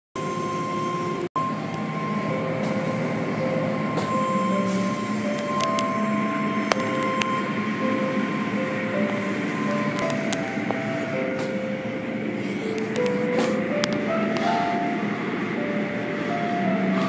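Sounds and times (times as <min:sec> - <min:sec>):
wash motors whining: 0:00.2 - 0:17.0.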